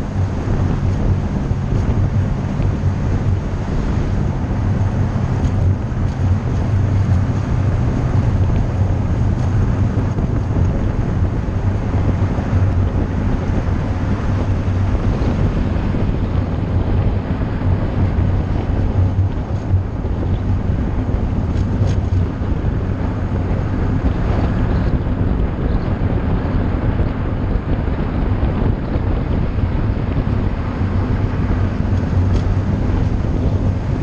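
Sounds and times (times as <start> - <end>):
constant low hum: 0.0 - 34.0
vehicle road noise: 0.0 - 34.0
wind noise on microphone: 0.0 - 34.0.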